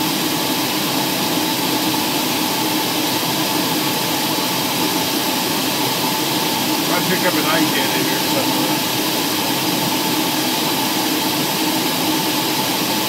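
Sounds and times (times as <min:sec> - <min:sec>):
aircraft engine noise: 0:00.4 - 0:13.0.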